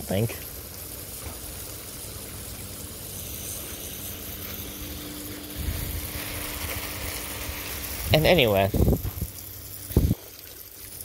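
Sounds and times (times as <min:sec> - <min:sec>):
faint steady hum: 0:00.0 - 0:11.0
water spraying from hose: 0:00.0 - 0:11.0.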